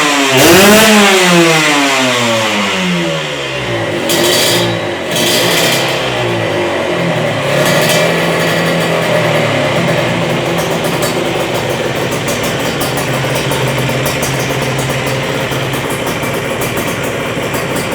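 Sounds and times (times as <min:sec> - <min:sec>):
two-stroke motorcycle engine revving: 0:00.0 - 0:17.9.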